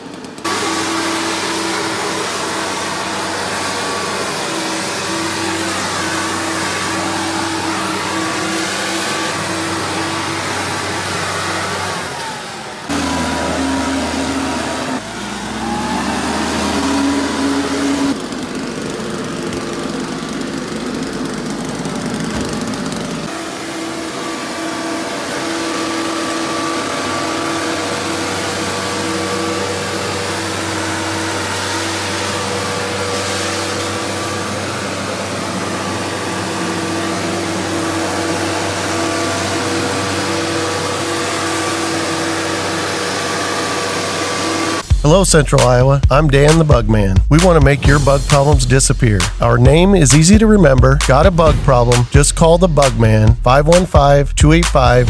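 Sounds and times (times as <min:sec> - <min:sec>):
mist blower engine drone: 0:00.0 - 0:55.0.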